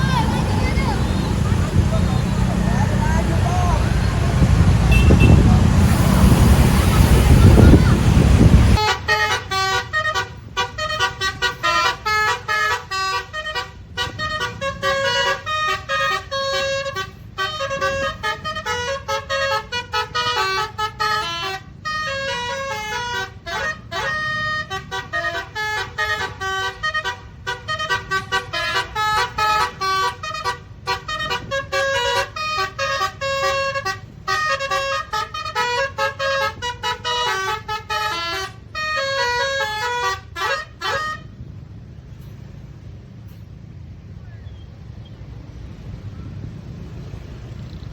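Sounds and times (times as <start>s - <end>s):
multi-tone bus horn tune: 0.0s - 43.8s.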